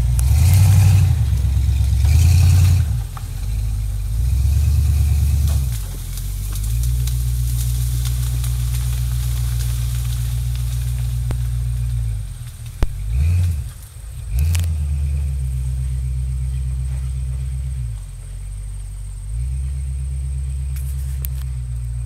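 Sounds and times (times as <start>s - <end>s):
off-road vehicle engine rumble: 0.0s - 22.0s
vehicle driving through reeds: 0.0s - 22.0s.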